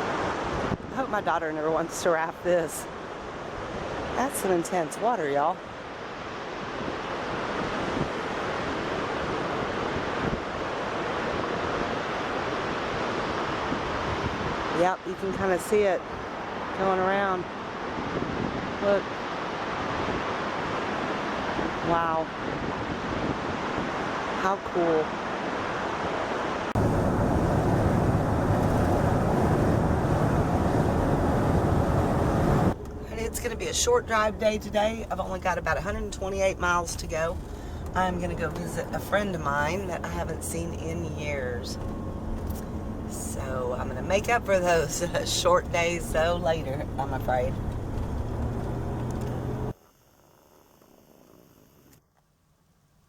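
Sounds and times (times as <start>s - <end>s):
rapids roaring: 0.0s - 49.7s
wind buffeting microphone: 6.1s - 24.4s, 25.1s - 49.7s.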